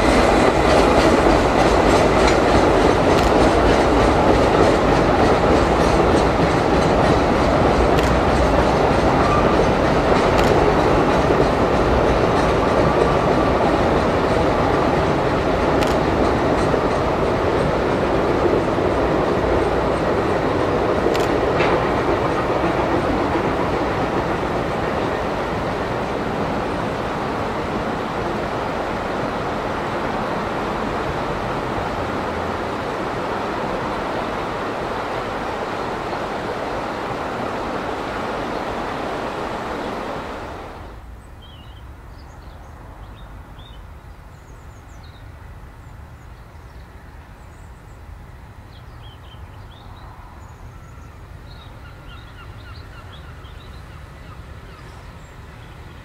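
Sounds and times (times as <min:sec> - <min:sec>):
steam train rumbling on rails: 0:00.0 - 0:56.0.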